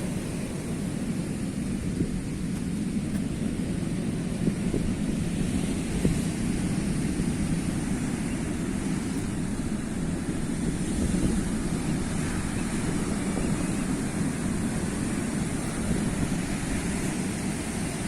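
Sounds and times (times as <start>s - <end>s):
sea waves surging on shore: 0.0s - 18.0s.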